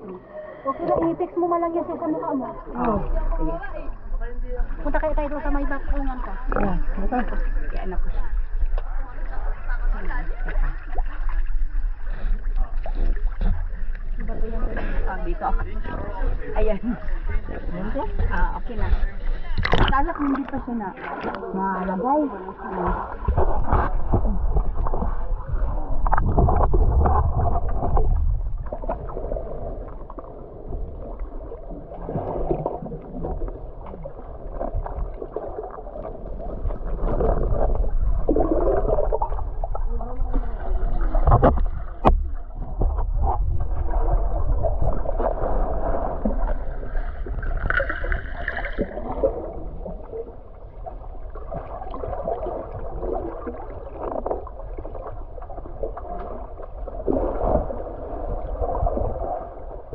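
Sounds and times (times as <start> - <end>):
muffled water sloshing and gurgling: 0.0 - 59.9.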